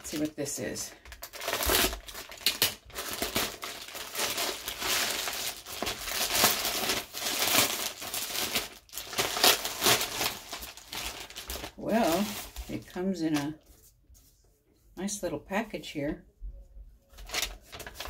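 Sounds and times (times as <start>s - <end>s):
plastic mailer crinkling and rustling: 0.0s - 13.7s, 17.1s - 18.0s.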